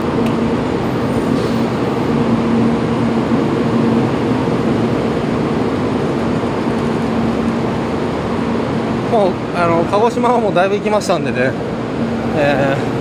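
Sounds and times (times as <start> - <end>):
train hum and whir: 0.0 - 13.0.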